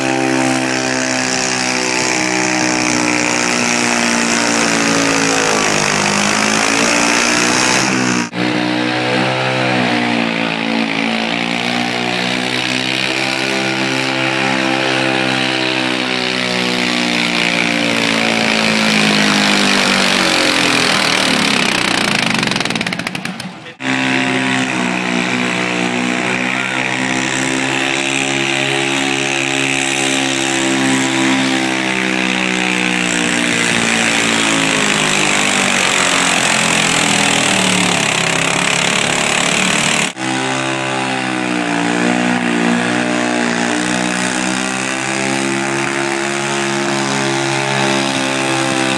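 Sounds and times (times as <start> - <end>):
tractor engines screaming: 0.0 - 48.9.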